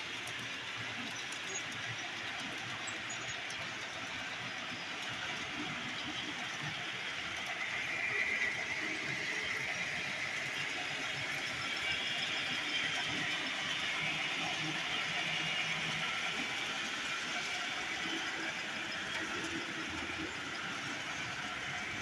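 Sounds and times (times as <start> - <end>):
model train motors whirring: 0.0 - 22.0
wheels rolling on track: 0.0 - 22.0.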